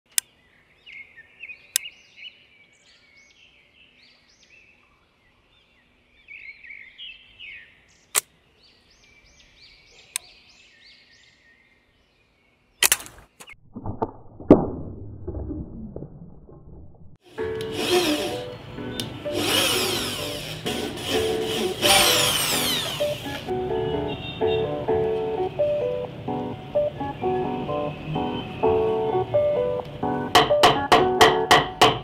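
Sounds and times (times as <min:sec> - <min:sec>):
birds chirping: 0:00.1 - 0:13.6, 0:17.8 - 0:31.0.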